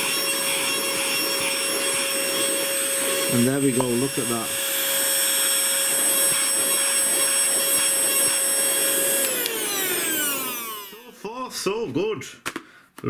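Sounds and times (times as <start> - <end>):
vacuum motor whine: 0.0 - 11.1.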